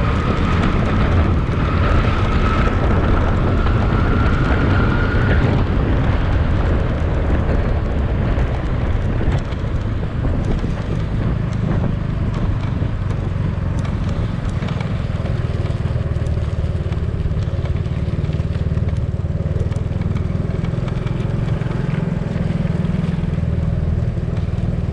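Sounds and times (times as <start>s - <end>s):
motorcycle engine running: 0.0s - 24.9s
tyre and wind noise: 0.0s - 24.9s.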